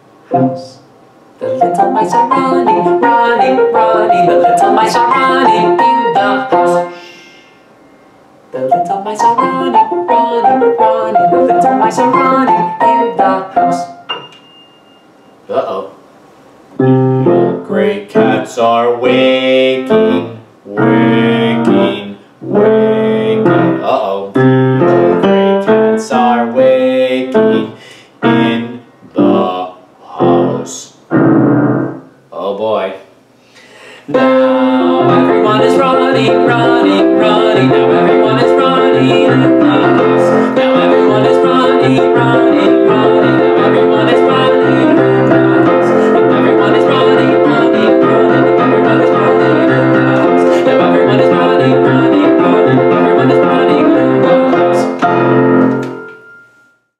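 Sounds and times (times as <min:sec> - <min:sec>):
grand piano chords: 0:00.0 - 0:15.5, 0:16.8 - 0:32.3, 0:34.1 - 0:56.9.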